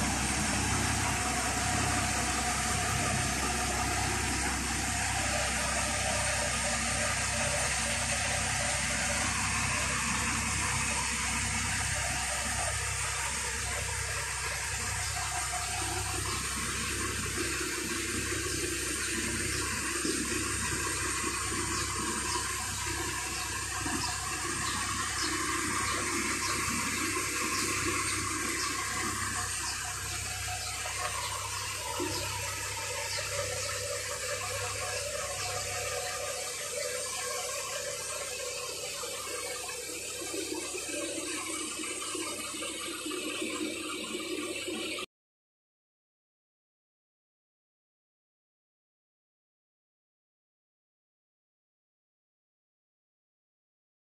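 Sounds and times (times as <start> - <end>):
low steady hum: 0.0 - 44.8.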